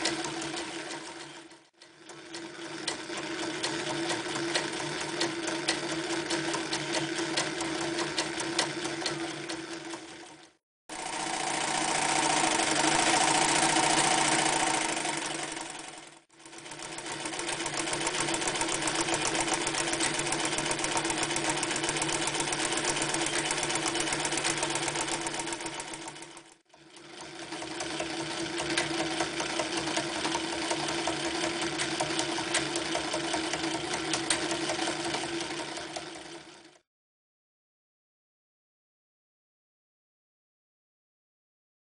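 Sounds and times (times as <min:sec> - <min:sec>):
sewing machine running: 0:00.0 - 0:36.8.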